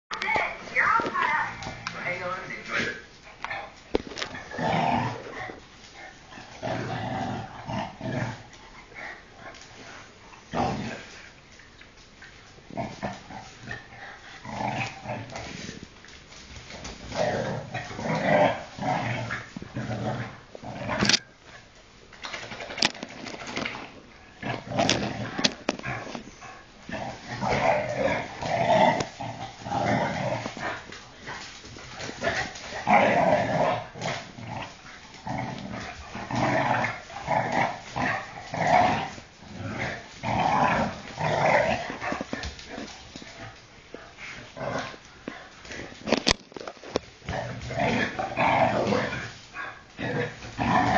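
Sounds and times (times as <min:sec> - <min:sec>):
dogs growling in play: 0:01.0 - 0:50.9.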